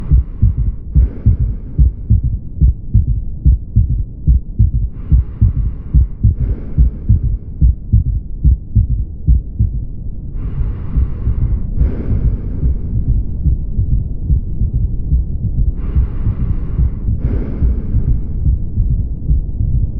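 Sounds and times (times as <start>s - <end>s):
heartbeat gallop rhythm: 0.0s - 19.9s.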